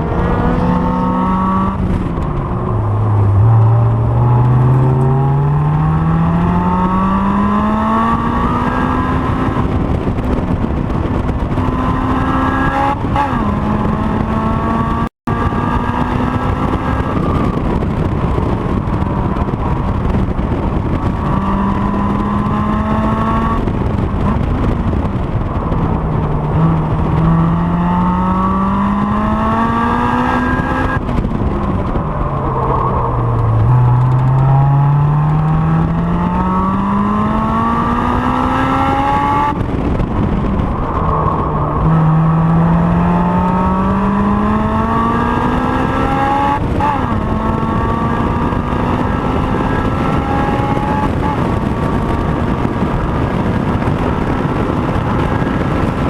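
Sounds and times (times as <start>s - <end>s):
car engine revving hard: 0.0s - 17.6s, 21.0s - 56.0s
wind and road noise: 0.0s - 56.0s.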